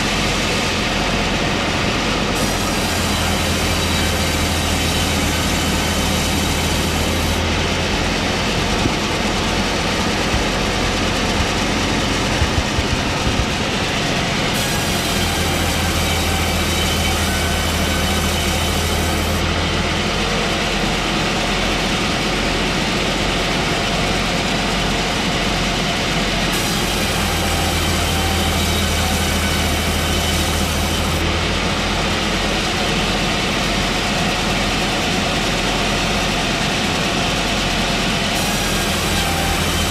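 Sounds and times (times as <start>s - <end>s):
track saw running: 0.0s - 39.9s.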